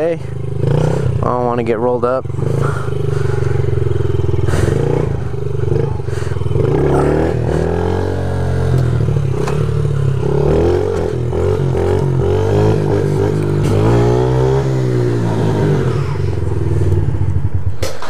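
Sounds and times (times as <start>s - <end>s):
small motorbike engine revving: 0.3s - 1.4s, 2.2s - 17.7s.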